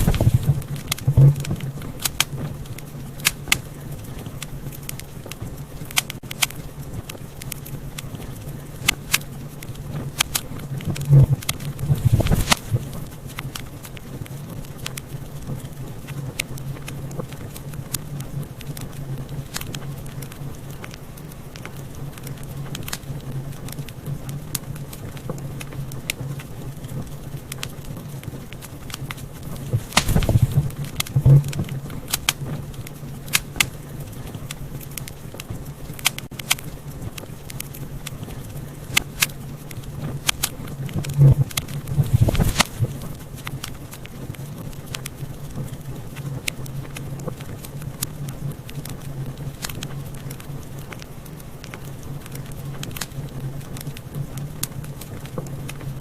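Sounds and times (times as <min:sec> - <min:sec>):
sharp pops of fire: 0:00.0 - 0:48.1
low rumble of flames: 0:00.0 - 0:56.0
wood fire crackling: 0:00.0 - 0:56.0.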